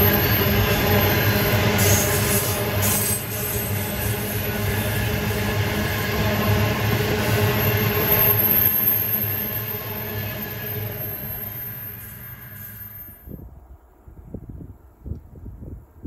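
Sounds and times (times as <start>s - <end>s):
freight train rumbling past: 0.0s - 14.3s.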